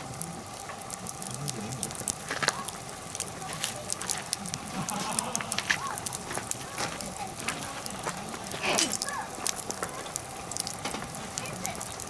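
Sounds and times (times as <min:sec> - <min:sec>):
sharp pops of fire: 0:00.0 - 0:12.0
wood fire crackling: 0:00.0 - 0:12.0.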